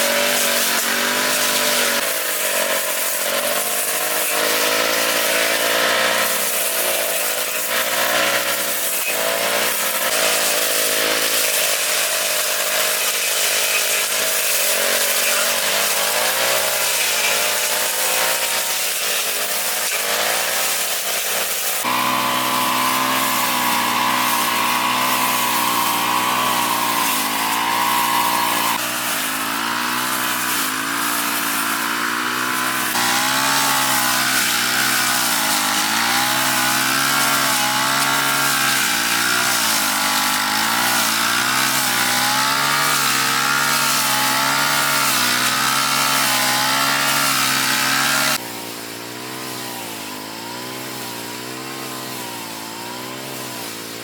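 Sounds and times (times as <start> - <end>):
petrol grass-cutter engine running: 0.0 - 54.0.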